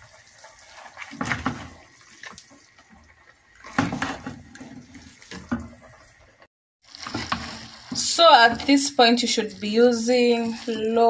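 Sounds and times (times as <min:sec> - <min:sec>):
utensil stirring spaghetti in pan: 0:00.0 - 0:11.0.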